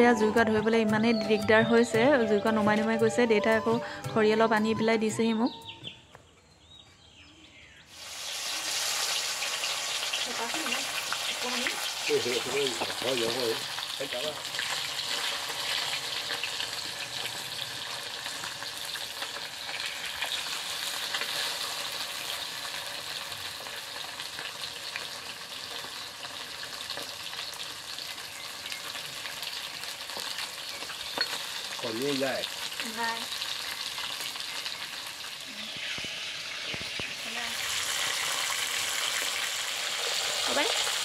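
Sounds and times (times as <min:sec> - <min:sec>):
fish sizzling in frying oil: 0:07.9 - 0:41.0.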